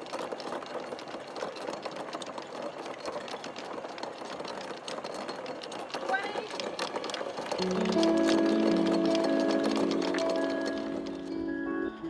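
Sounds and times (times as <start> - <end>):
boat engine clattering: 0.0 - 12.0.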